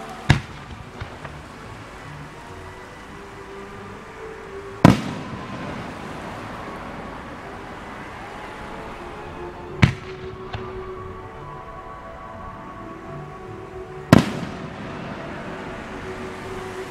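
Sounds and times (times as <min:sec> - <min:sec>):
music: 0:00.0 - 0:16.9.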